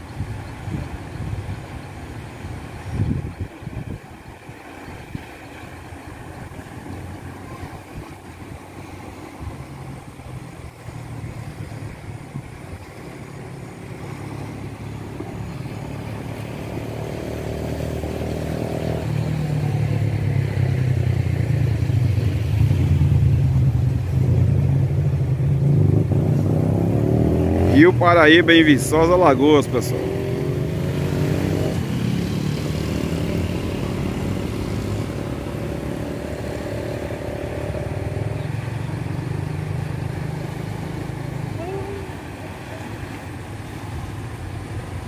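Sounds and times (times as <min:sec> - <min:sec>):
fast-flowing river rushing: 0:00.0 - 0:45.0
motor vehicle engine running: 0:00.0 - 0:45.0.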